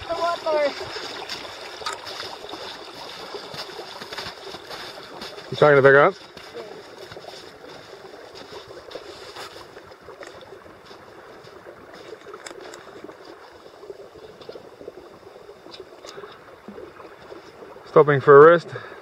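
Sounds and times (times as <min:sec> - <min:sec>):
small stream running: 0:00.0 - 0:19.0.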